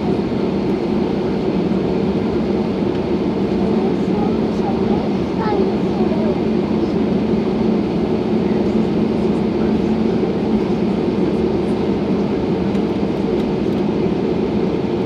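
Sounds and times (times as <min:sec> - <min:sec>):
airliner engines rumbling: 0:00.0 - 0:15.0.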